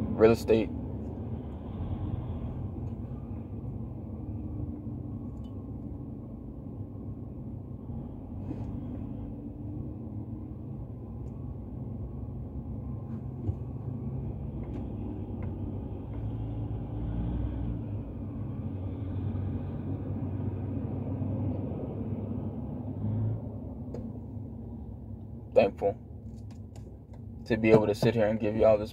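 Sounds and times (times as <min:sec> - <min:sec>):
car engine and road noise: 0:00.0 - 0:28.9.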